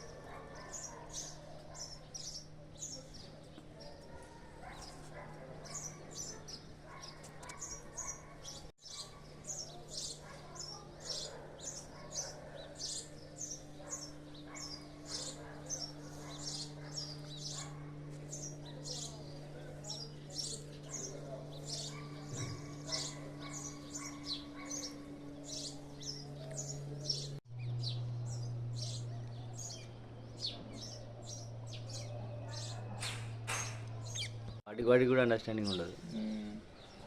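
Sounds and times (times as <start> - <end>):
small birds chirping: 0.0 - 37.0
steady low hum: 4.6 - 34.6.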